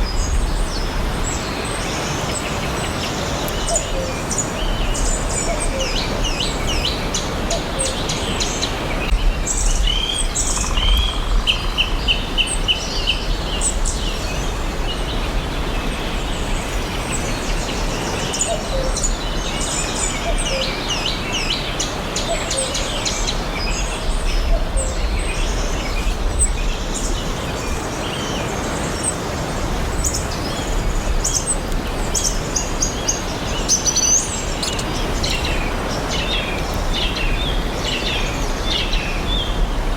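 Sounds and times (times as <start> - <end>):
birds chirping and singing: 0.0 - 39.9
steady background hiss: 0.0 - 39.9.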